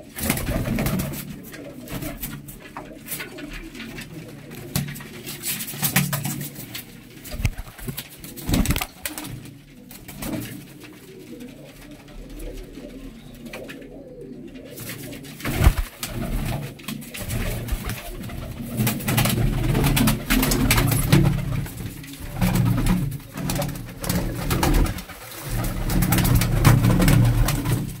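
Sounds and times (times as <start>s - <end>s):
pigeons cooing: 0.0s - 28.0s
wing flaps: 3.1s - 13.1s, 14.8s - 28.0s.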